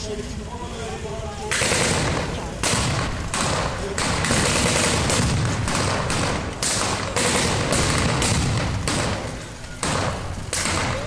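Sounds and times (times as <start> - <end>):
rapid blank gunfire: 1.5 - 11.0.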